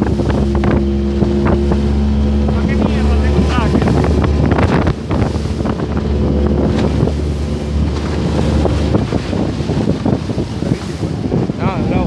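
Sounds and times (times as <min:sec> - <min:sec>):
motorboat running: 0:00.0 - 0:12.0
wind buffeting microphone: 0:00.0 - 0:12.0.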